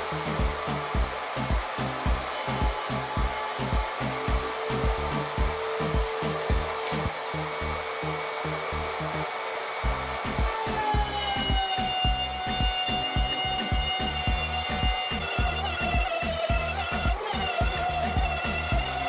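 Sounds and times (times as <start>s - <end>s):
background music with beat: 0.0s - 19.0s
router cutting wood: 0.0s - 19.0s.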